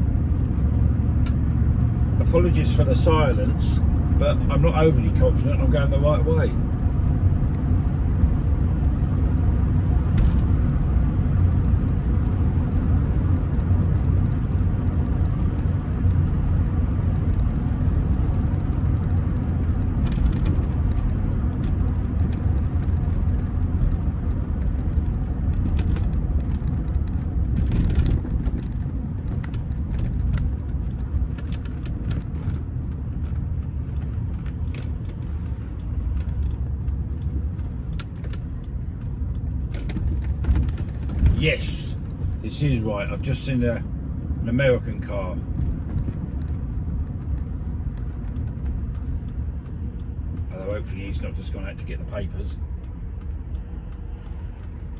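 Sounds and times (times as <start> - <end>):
car cabin road and engine rumble: 0.0 - 54.9.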